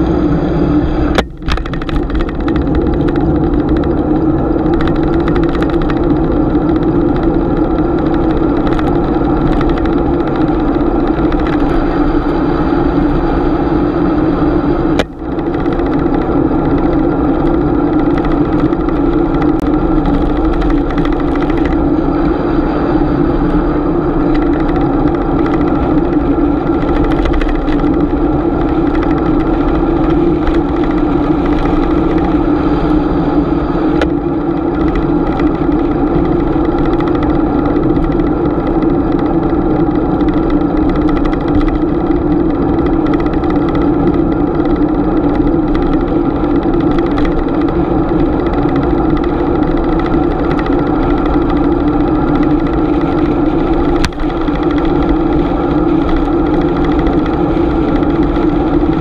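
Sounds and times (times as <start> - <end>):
droning hum: 0.0 - 59.0
road noise: 0.0 - 59.0.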